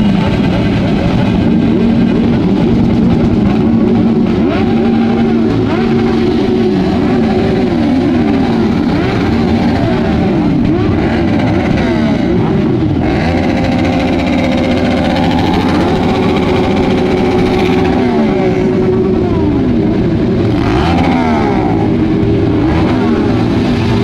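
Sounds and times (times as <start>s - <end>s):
motorcycle engines revving: 0.0s - 24.0s
steady engine note: 0.0s - 24.0s.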